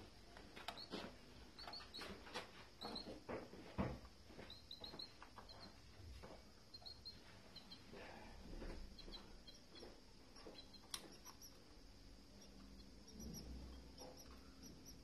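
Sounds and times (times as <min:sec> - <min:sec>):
canary chirps: 0:00.6 - 0:03.2, 0:04.4 - 0:05.9, 0:06.5 - 0:15.0.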